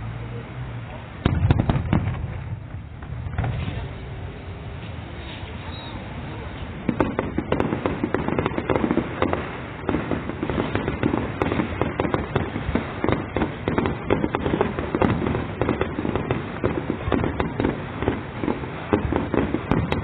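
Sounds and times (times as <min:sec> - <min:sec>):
fireworks banging: 0:01.2 - 0:20.0.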